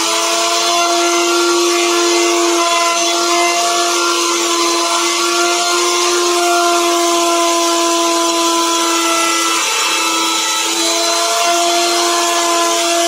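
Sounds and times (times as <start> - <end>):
router bit cutting wood: 0.0 - 13.0
router whining: 0.0 - 13.0.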